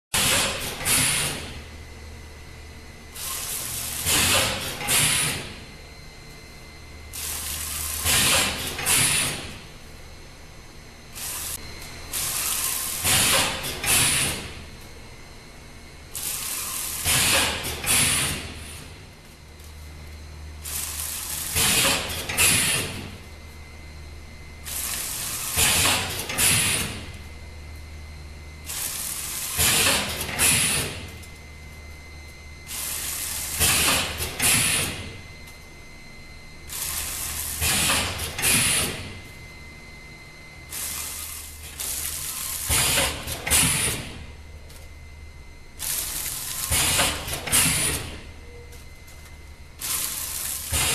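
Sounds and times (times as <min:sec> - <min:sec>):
packing machine humming: 0:00.1 - 0:50.9.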